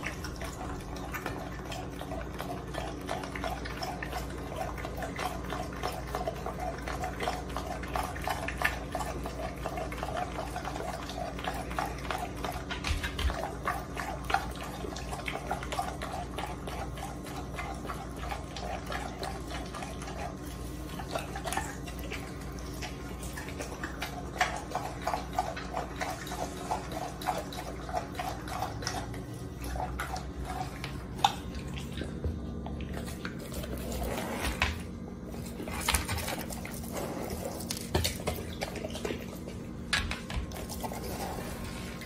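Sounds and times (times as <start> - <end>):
dog licking and chewing meat: 0.0 - 42.0.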